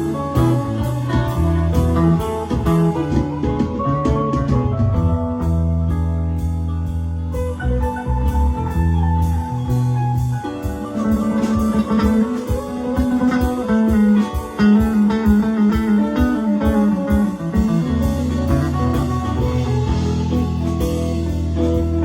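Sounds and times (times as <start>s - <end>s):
live band playing instrumental: 0.0s - 22.0s.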